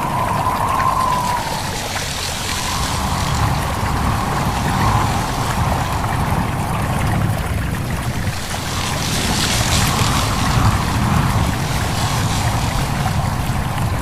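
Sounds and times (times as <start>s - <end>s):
stream water babbling: 0.0s - 14.0s
wind whistling: 0.0s - 14.0s.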